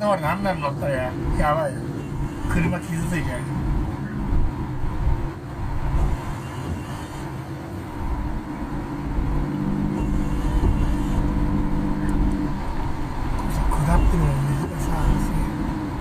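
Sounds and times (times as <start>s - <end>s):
engine and road rumble: 0.0s - 16.0s
steady engine hum: 0.0s - 16.0s.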